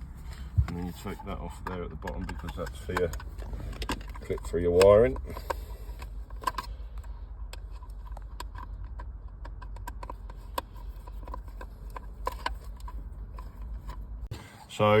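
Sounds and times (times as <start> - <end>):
low steady hum: 0.0 - 15.0
plastic parts clicking: 0.6 - 14.1.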